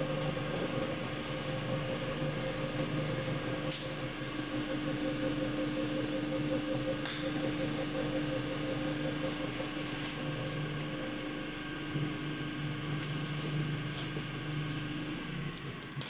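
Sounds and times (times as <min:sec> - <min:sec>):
mixing mill motor humming: 0:00.0 - 0:16.0.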